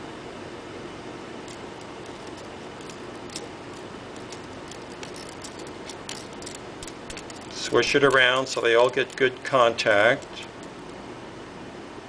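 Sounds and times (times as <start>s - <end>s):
steady hiss: 1.4s - 11.3s.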